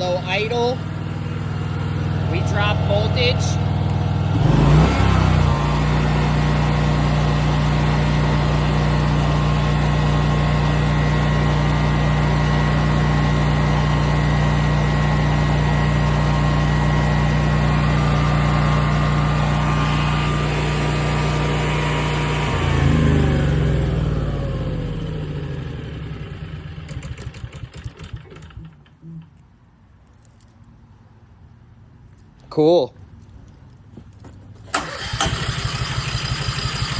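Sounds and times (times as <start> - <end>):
generator engine running: 0.0 - 29.0, 34.6 - 36.9.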